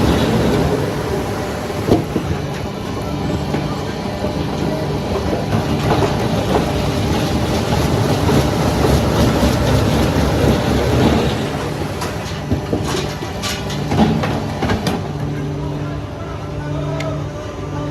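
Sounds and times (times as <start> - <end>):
heavy machinery humming and rattling: 0.0 - 17.9.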